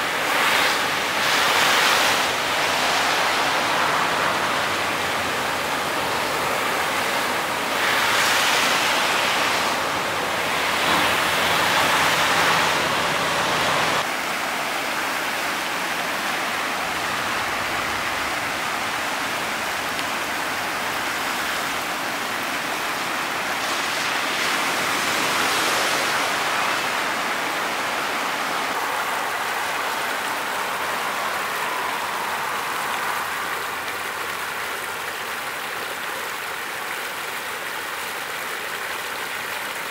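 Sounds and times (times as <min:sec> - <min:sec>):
floodwater rushing over a drain: 0:00.0 - 0:39.9
vehicles driving through floodwater: 0:00.0 - 0:39.9.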